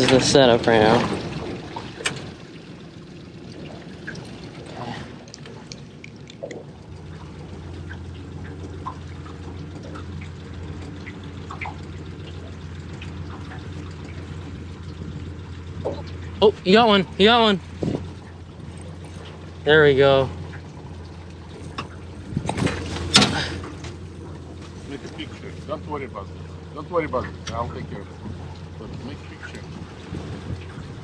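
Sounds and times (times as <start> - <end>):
water lapping against boat hull: 0.0 - 31.0.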